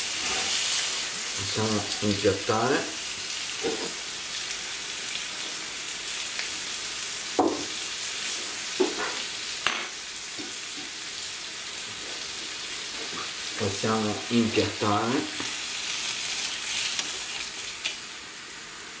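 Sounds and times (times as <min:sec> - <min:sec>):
food frying sizzle: 0:00.0 - 0:19.0.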